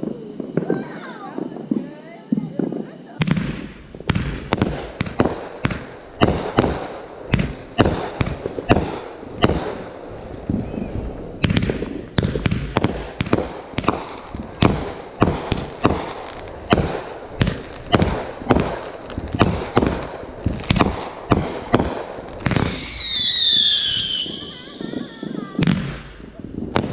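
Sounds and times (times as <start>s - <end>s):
fireworks banging: 0.0s - 26.9s.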